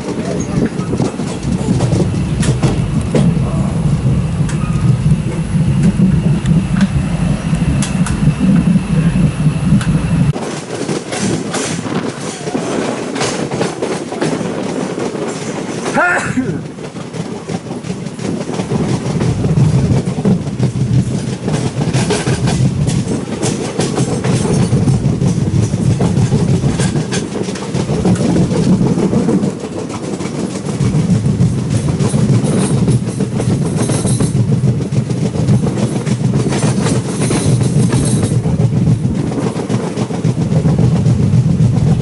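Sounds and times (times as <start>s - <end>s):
sharp clicks of rails: 0.0s - 3.3s, 9.8s - 42.0s
train wheels rumbling on rails: 0.0s - 42.0s.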